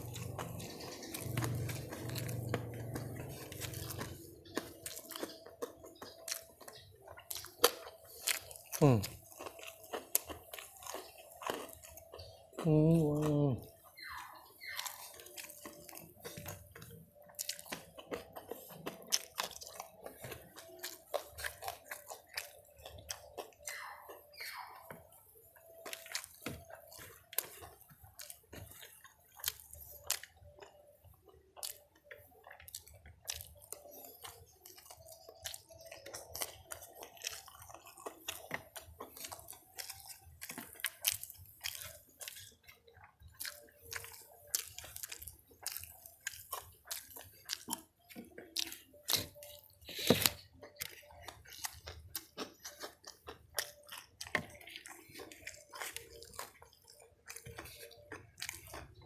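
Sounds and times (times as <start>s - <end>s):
chewing with mouth smacks: 0.0s - 59.0s
food crunching: 0.0s - 59.0s.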